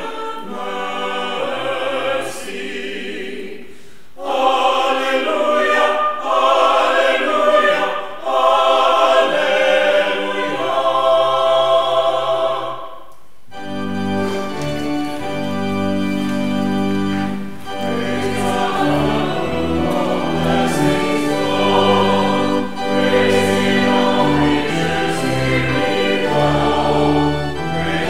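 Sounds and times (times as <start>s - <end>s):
congregation singing a hymn: 0.0s - 28.0s
organ chords: 4.2s - 28.0s.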